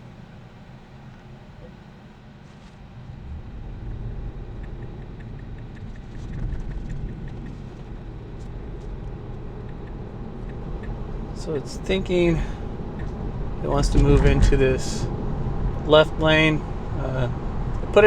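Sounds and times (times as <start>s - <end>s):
road and tyre rumble: 0.0s - 18.0s
turn signal ticking: 0.0s - 18.0s.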